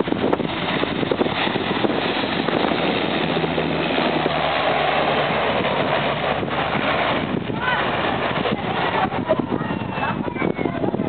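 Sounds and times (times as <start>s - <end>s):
rushing noise: 0.0s - 11.0s
turboprop engine and propeller drone: 0.0s - 11.0s.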